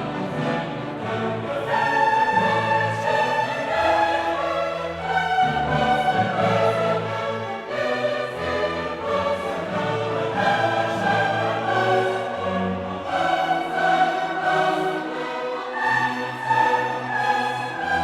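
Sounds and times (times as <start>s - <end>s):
orchestral music with choir: 0.0s - 18.0s.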